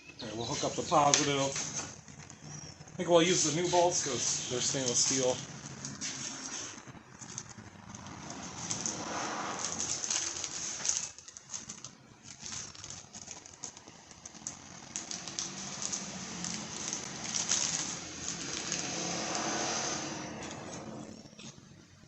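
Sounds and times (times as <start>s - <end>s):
plastic packaging crinkling: 0.3s - 21.7s.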